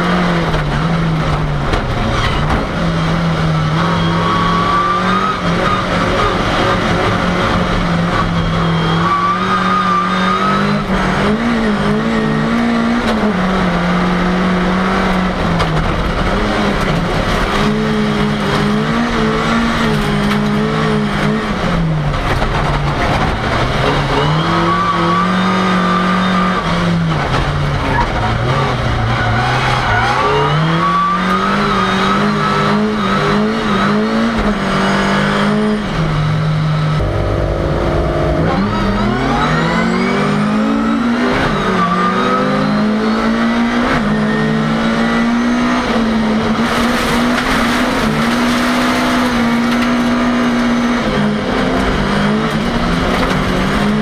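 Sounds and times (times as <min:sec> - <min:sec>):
car engine at speed: 0:00.0 - 0:54.0.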